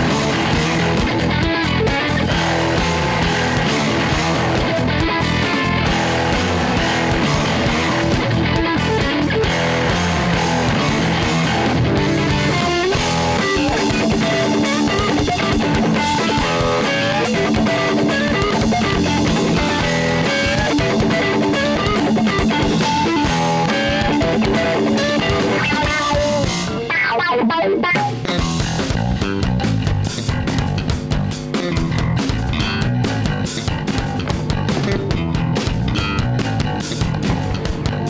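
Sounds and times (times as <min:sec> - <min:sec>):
bass guitar: 0:00.0 - 0:38.0
distorted electric guitar riffing: 0:00.0 - 0:38.0
drum kit: 0:00.0 - 0:38.0.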